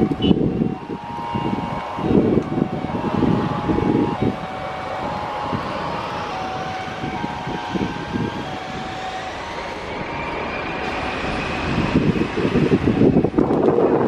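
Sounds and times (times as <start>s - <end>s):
jet engines whining: 0.0s - 14.0s
wind buffeting microphone: 0.0s - 14.0s.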